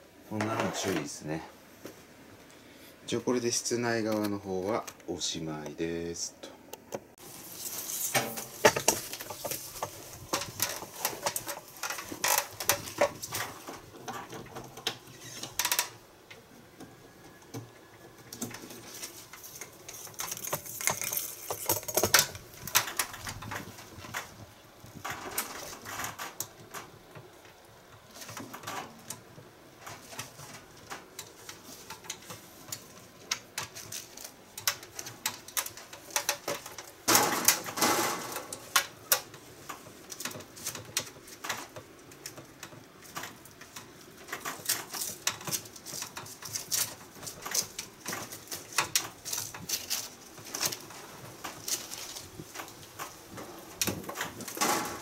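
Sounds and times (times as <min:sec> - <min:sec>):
pipe insulation rustling: 0:00.0 - 0:55.0
copper pipe clicking and creaking: 0:06.7 - 0:55.0.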